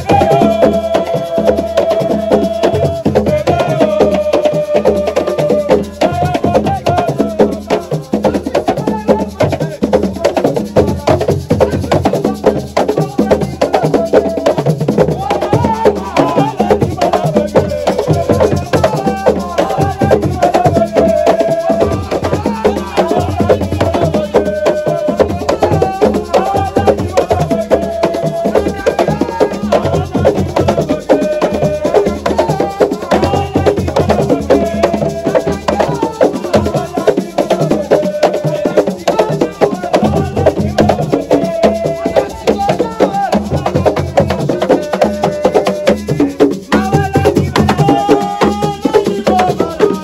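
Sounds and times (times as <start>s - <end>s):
fast percussion: 0.0s - 50.0s
person singing: 0.0s - 50.0s.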